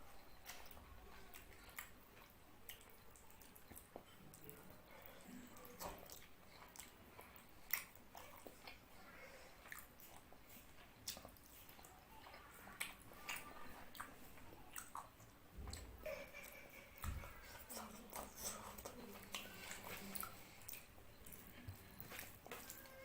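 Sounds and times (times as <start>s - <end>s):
wet chewing and smacking: 0.1s - 23.0s.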